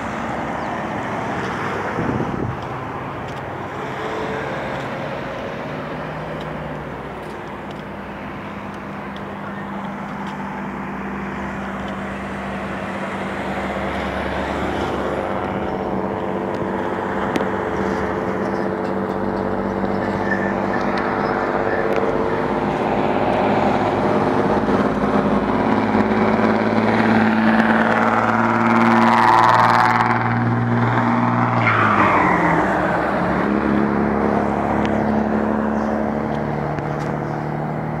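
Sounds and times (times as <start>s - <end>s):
heavy truck passing: 0.0s - 38.0s
highway traffic: 0.0s - 38.0s.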